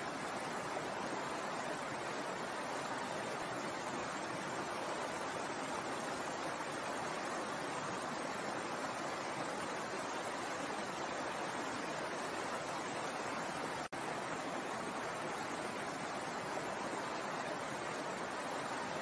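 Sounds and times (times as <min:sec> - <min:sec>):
stream splashing over rocks: 0:00.0 - 0:19.0.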